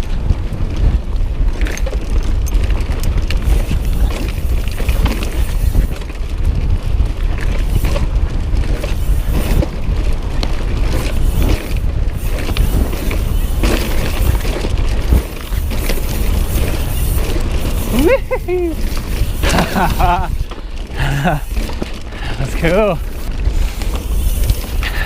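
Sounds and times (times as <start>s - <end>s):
bike rattling on rough trail: 0.0s - 25.0s
wind buffeting microphone: 0.0s - 25.0s.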